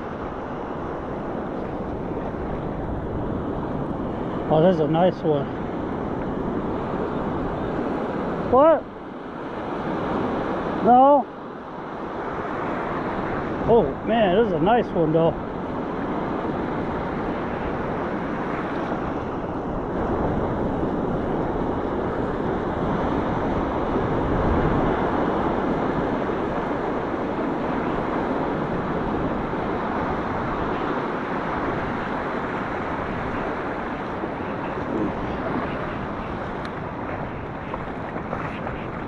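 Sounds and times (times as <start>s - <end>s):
wind on microphone: 0.0s - 11.0s, 11.7s - 39.0s
ocean surf rushing: 0.0s - 39.0s.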